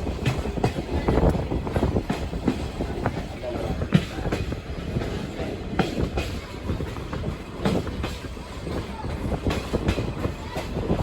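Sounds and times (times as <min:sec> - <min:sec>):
train car rumbling: 0:00.0 - 0:11.0
wheels and couplings clacking: 0:00.0 - 0:11.0.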